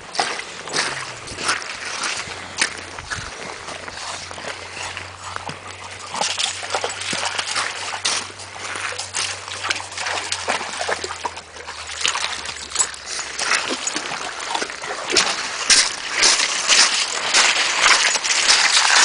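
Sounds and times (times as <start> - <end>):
dog splashing in river water: 0.0 - 19.0.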